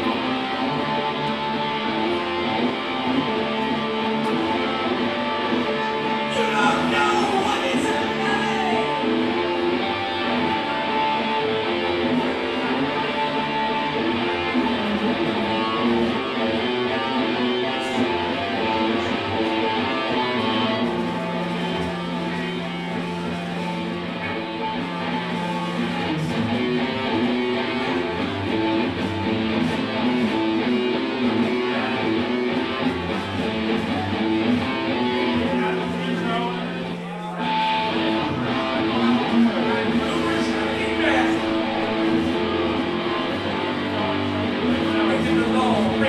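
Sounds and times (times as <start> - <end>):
live band with electric guitar: 0.0 - 46.0.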